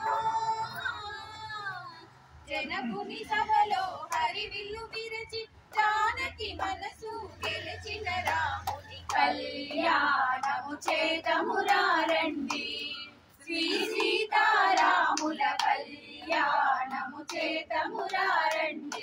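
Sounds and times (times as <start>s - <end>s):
women singing together: 0.0s - 19.0s.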